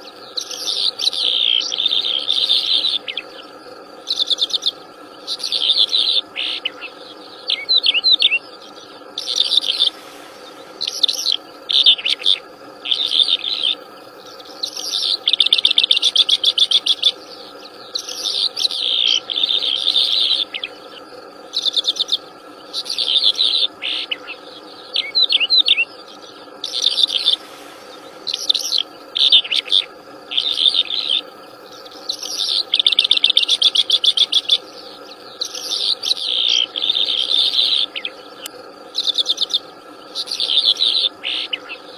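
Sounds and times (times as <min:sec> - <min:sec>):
songbird trilling and chirping: 0:00.0 - 0:41.9
steady hum: 0:00.0 - 0:41.9.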